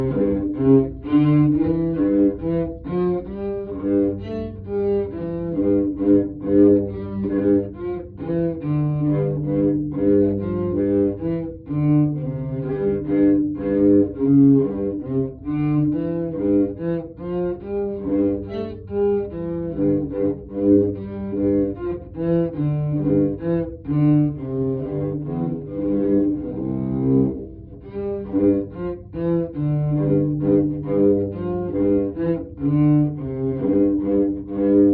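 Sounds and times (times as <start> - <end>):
bowed cello notes: 0.0 - 34.9.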